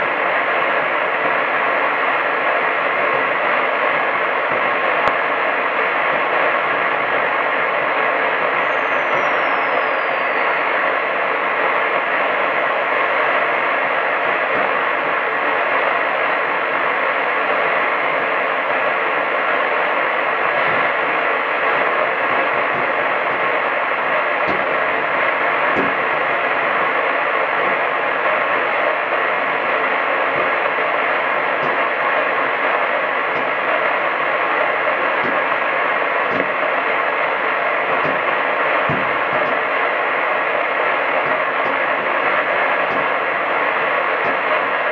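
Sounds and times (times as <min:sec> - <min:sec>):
radio static hiss: 0:00.0 - 0:44.9
faint radio crackles: 0:02.4 - 0:44.9.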